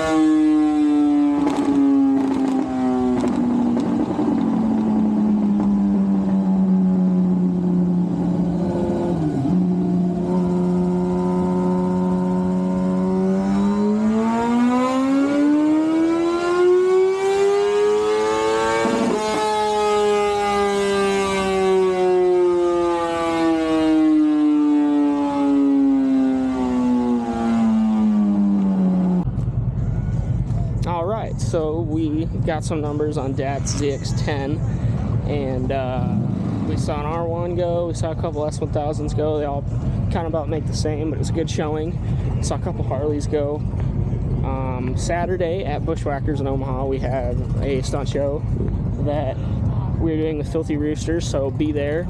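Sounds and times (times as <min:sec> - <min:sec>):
motorcycle engine revving: 0:00.0 - 0:30.5, 0:31.4 - 0:50.6.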